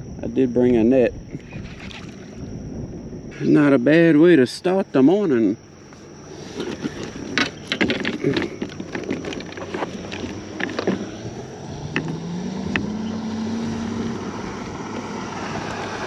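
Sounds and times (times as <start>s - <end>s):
distant engine hum: 0.0s - 16.0s.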